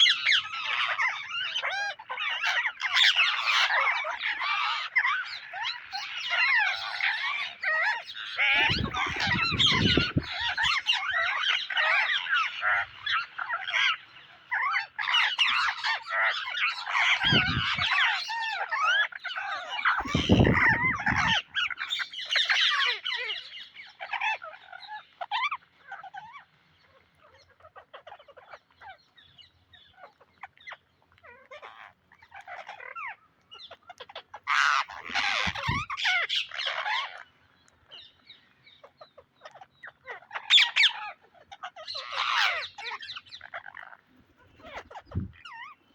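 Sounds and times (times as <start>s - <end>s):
parakeets squawking: 0.0s - 45.9s.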